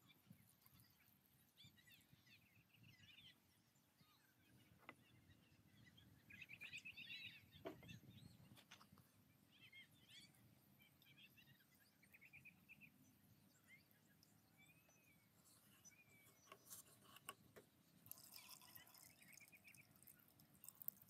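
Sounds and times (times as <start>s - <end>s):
bird chirps: 0.0s - 17.2s.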